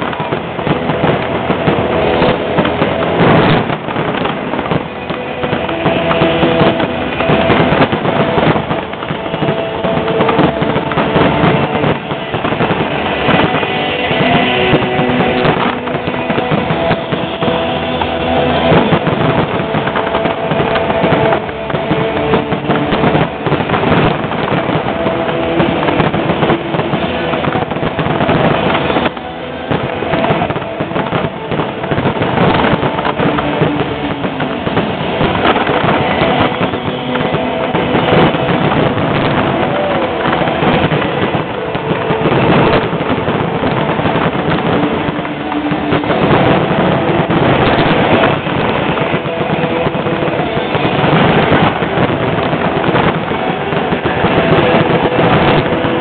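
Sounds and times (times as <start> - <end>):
crackling firework stars: 0.0 - 56.0
music playing: 0.0 - 56.0.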